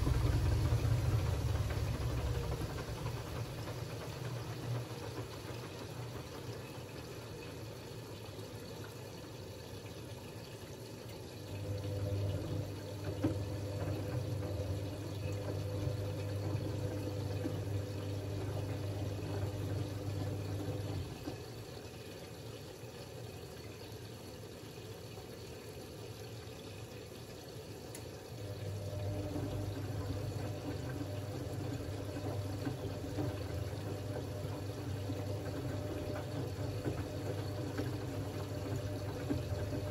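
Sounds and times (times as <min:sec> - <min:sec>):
water moving in drum: 0:00.0 - 0:22.5, 0:27.8 - 0:39.9
washing machine motor humming: 0:00.0 - 0:39.9.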